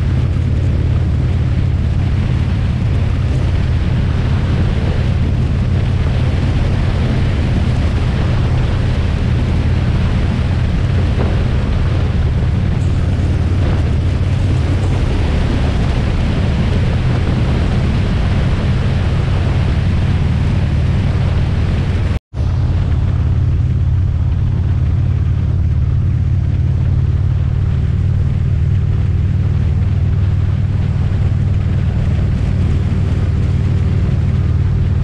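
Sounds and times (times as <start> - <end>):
motorcycle low rumble: 0.0 - 35.0
wind rush on microphone: 0.0 - 35.0.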